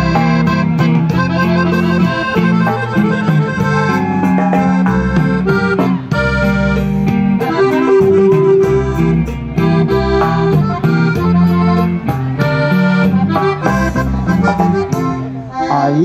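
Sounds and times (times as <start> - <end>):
bass and drums beat: 0.0 - 15.5
button accordion playing: 0.0 - 16.0.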